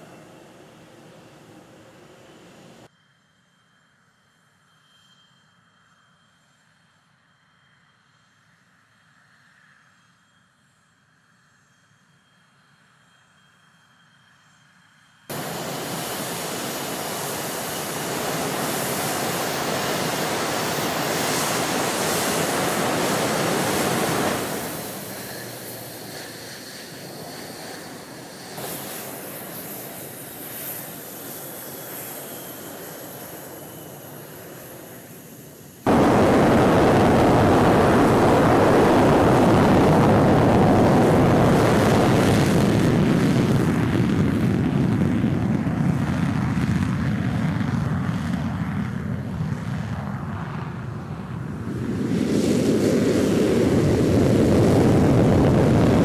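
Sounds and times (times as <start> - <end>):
distant jet engines whining: 0.0 - 56.0
jet engines taxiing close by: 0.0 - 56.0.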